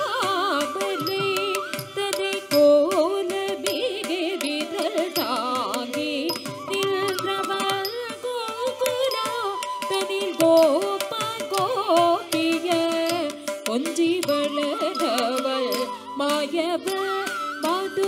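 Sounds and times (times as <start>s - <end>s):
flute: 0.0s - 11.4s, 14.2s - 18.0s
violin: 0.0s - 18.0s
woman singing: 0.0s - 18.0s.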